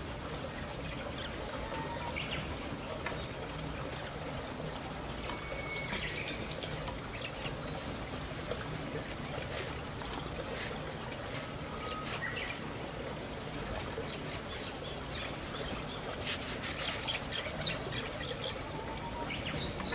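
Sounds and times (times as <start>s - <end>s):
outdoor background hiss: 0.0s - 19.9s.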